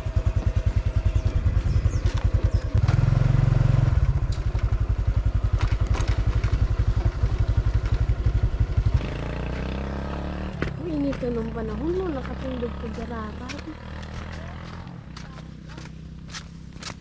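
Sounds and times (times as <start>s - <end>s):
small motorcycle engine running: 0.0s - 17.0s.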